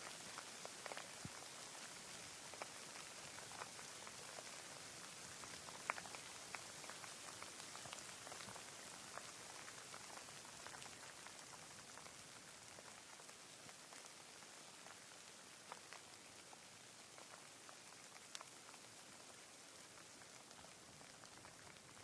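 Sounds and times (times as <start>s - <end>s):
soft steady rain: 0.0s - 22.0s.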